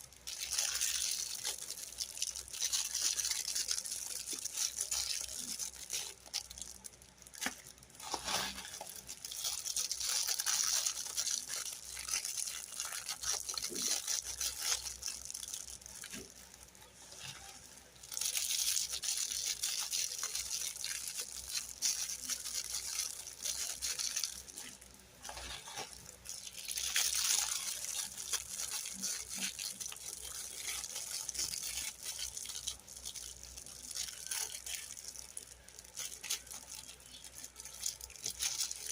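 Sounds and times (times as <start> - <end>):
plastic packaging crinkling: 0.0 - 38.9.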